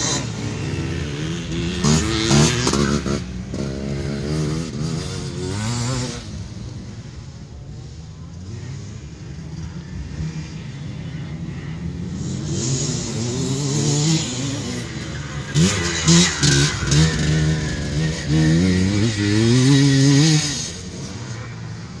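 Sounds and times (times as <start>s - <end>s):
motorcycle engine revving: 0.0s - 7.6s, 8.2s - 22.0s.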